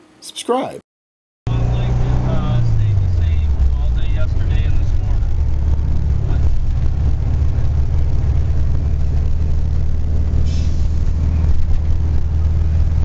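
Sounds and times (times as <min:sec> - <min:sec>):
engine hum and road noise: 0:01.5 - 0:13.0.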